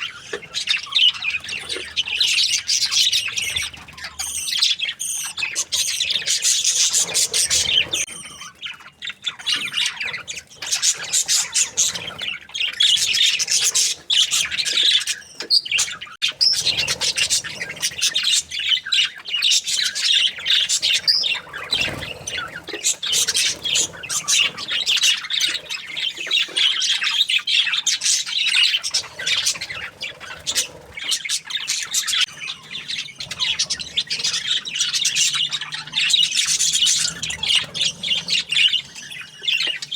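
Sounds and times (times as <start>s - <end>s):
bird squawks: 0.0s - 39.9s
budgerigars chirping and chattering: 0.0s - 39.9s.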